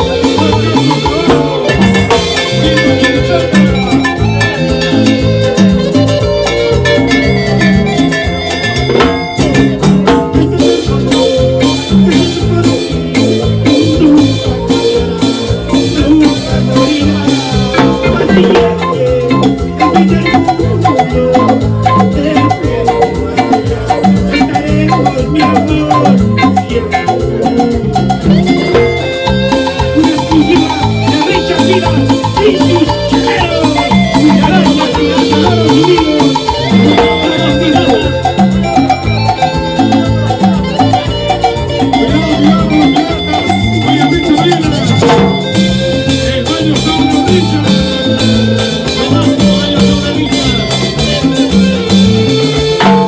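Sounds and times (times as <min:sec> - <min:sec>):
band playing latin dance music: 0:00.0 - 0:53.0
driving percussion beat: 0:00.0 - 0:53.0
pulsing bass line: 0:00.0 - 0:53.0.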